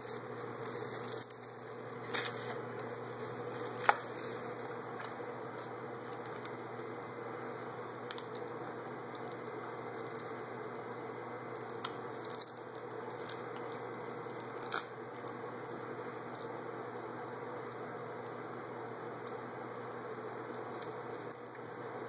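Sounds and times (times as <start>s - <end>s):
seaweed crackling as chewed: 0.0s - 16.6s, 20.3s - 21.8s.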